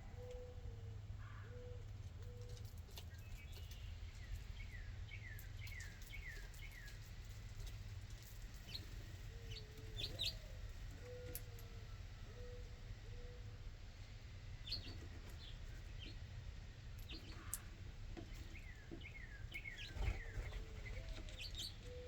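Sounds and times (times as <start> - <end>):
birds chirping: 0.0 - 7.7, 8.5 - 13.6, 14.6 - 16.4, 17.0 - 22.0.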